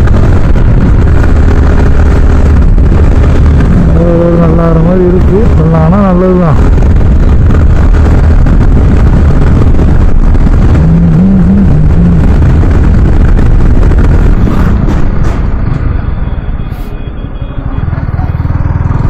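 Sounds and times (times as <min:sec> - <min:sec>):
motorcycle engine running: 0:00.0 - 0:16.7, 0:17.4 - 0:19.0
wind noise on camera: 0:00.0 - 0:19.0.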